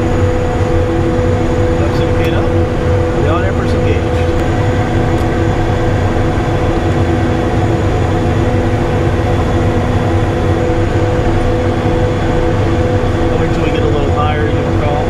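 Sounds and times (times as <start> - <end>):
cockpit airflow rumble: 0.0 - 15.0
jet engine hum: 0.0 - 15.0.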